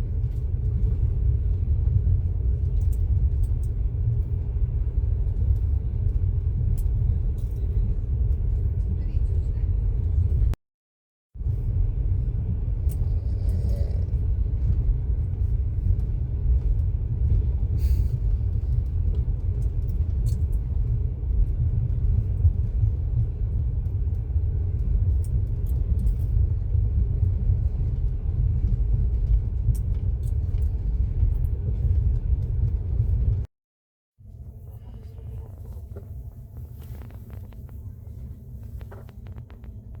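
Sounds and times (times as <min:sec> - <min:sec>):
vehicle interior rumble: 0:00.0 - 0:10.6, 0:11.4 - 0:33.5, 0:34.2 - 0:40.0.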